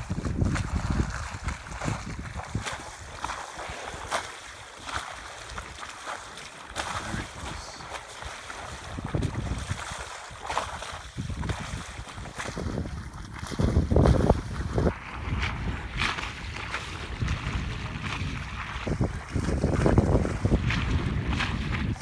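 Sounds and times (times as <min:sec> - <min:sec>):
wind buffeting microphone: 0:00.0 - 0:05.9, 0:06.7 - 0:22.0
water splashes: 0:00.0 - 0:22.0
water washing around boat: 0:00.0 - 0:22.0.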